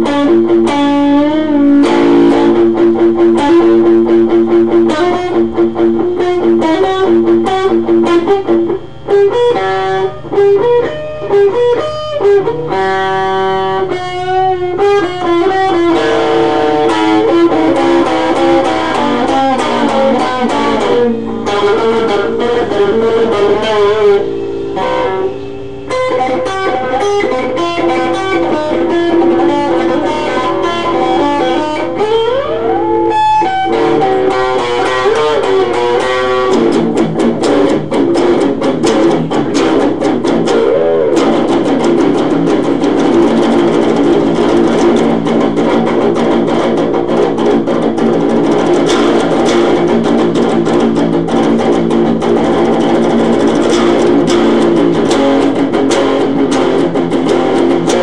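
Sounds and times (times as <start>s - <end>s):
electric guitar solo: 0.0s - 58.0s.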